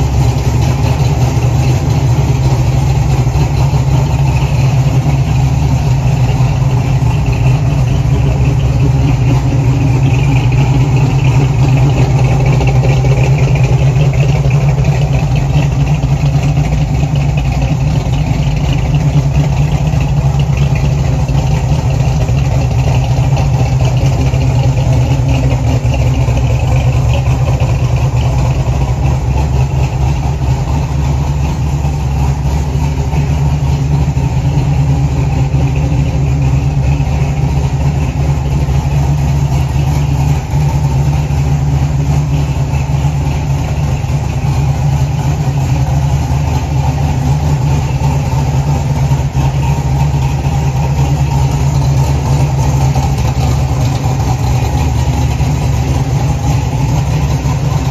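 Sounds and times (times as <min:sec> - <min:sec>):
car engine idling: 0:00.0 - 0:57.9.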